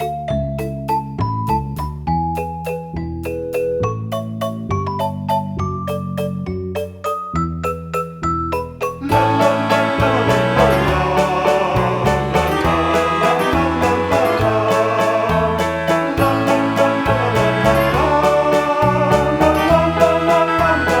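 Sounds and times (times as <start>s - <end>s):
instrumental music with steady beat: 0.0s - 21.0s.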